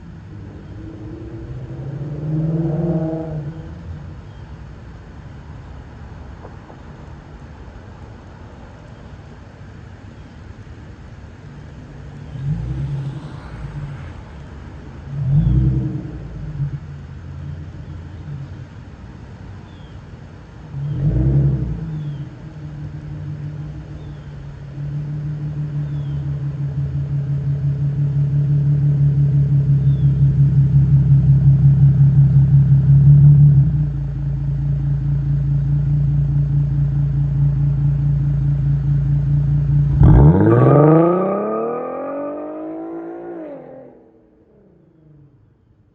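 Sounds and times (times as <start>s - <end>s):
car engine revving: 0.0s - 4.0s, 11.4s - 19.7s, 20.4s - 45.4s.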